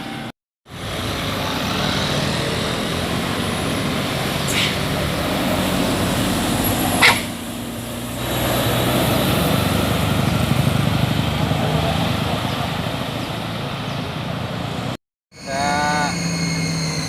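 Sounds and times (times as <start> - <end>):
diesel bus engine running: 0.0 - 15.9.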